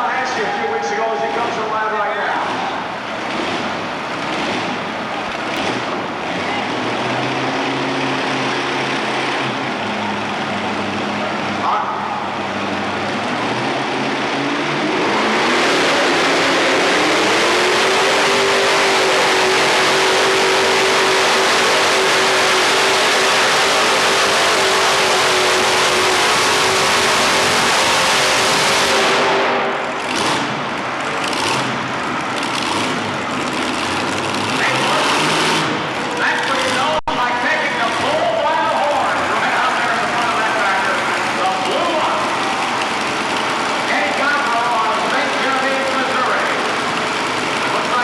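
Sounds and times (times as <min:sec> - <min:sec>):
engine throttle bursts: 0:00.0 - 0:48.0
tractor engines screaming: 0:00.0 - 0:48.0.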